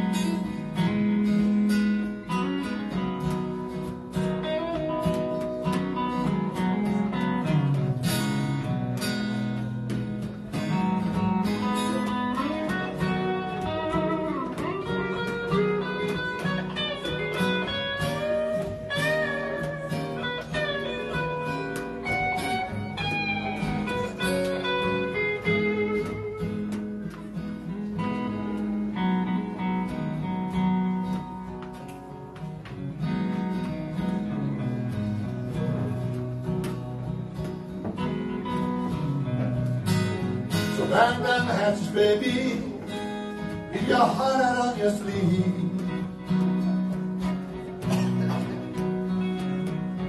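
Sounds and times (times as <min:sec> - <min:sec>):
bluesy electric guitar lead: 0:00.0 - 0:50.0
strummed acoustic guitar: 0:00.0 - 0:50.0.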